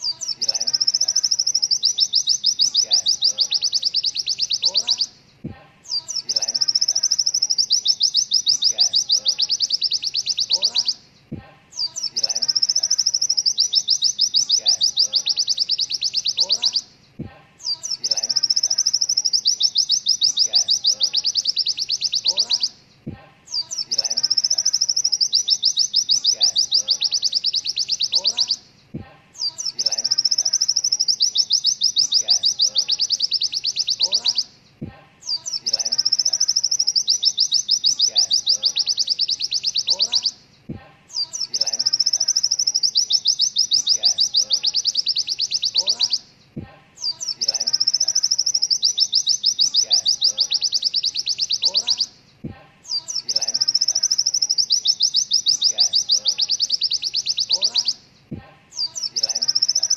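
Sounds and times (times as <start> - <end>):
bird singing rapid trill: 0.0 - 59.9
faint low bird chirping: 0.0 - 59.9.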